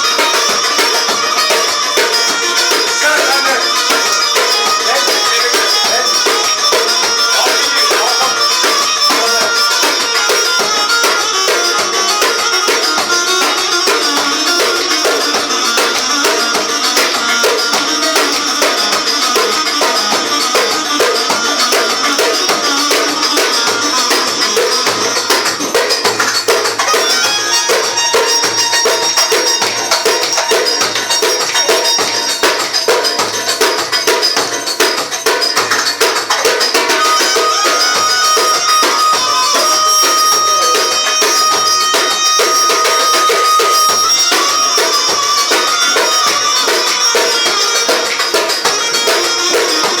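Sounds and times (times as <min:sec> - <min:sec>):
fast percussion beat: 0:00.0 - 0:50.0
melody instrument: 0:00.0 - 0:50.0.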